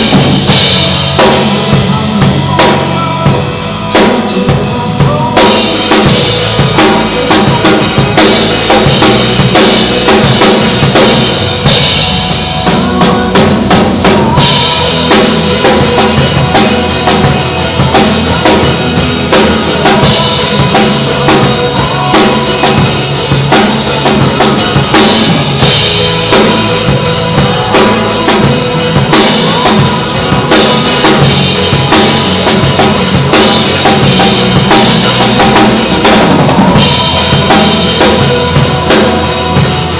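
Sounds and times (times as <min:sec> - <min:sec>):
drum kit playing a beat: 0:00.0 - 0:39.9
recorded pop music backing: 0:00.0 - 0:39.9.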